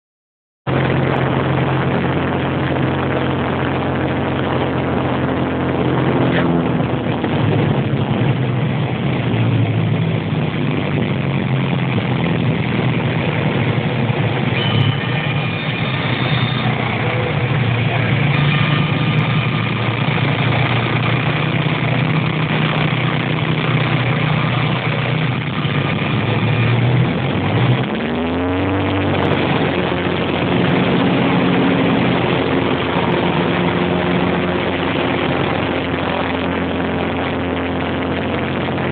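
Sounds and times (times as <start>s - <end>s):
propeller aircraft engine drone: 0.7s - 38.9s.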